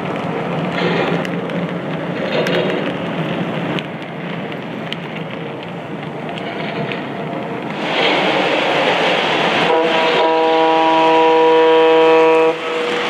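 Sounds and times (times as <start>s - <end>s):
model train wheels rolling on track: 0.0s - 13.0s.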